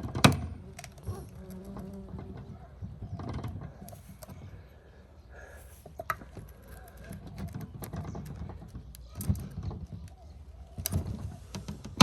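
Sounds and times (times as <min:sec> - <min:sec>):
creaks and clicks: 0:00.0 - 0:05.0, 0:05.8 - 0:12.0.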